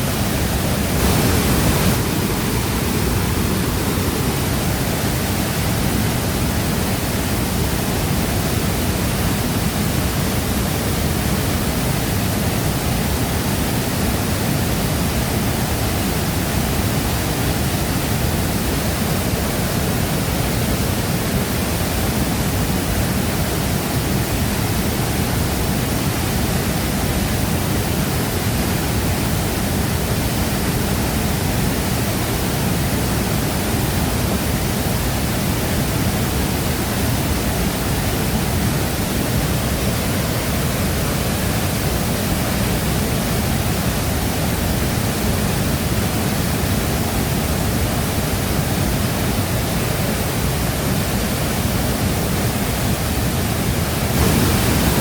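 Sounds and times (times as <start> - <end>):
waterfall crashing into pool: 0.0 - 55.0.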